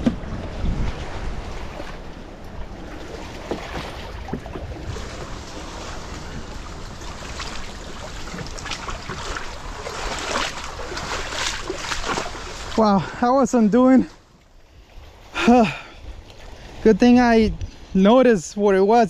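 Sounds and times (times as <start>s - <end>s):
wind buffeting microphone: 0.0s - 14.1s, 14.8s - 18.8s
wading steps splashing water: 0.0s - 18.1s.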